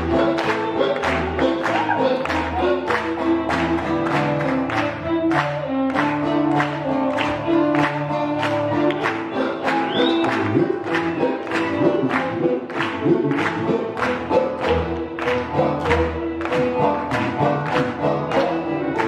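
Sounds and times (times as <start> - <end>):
double bass: 0.0 - 19.0
strummed guitar: 0.0 - 19.0
violin: 0.0 - 19.0.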